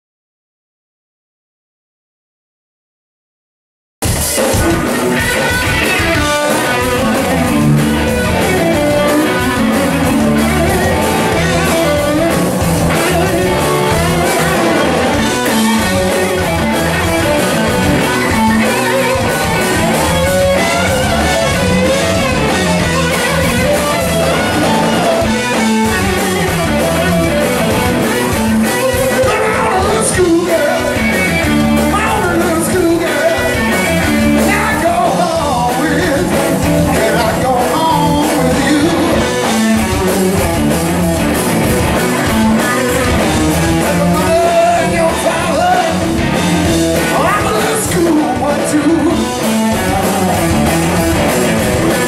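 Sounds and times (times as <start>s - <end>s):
drum kit: 4.0s - 52.0s
electric guitar: 4.0s - 52.0s.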